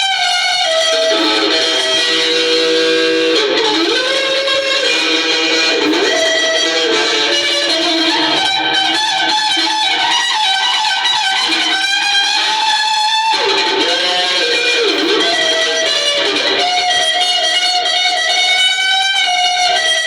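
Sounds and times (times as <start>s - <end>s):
electric guitar blues-rock lead: 0.0s - 20.0s.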